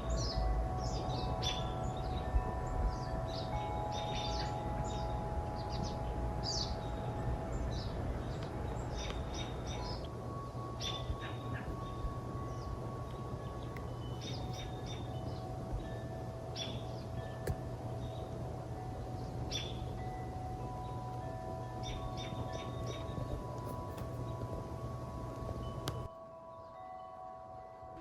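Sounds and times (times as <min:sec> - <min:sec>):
low background rumble: 0:00.0 - 0:26.1
songbirds chirping and singing: 0:00.0 - 0:27.7.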